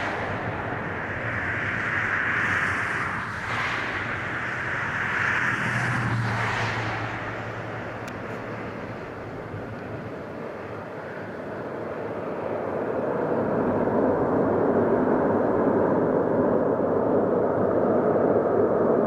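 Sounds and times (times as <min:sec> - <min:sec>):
jet engines roaring at takeoff: 0:00.0 - 0:19.0.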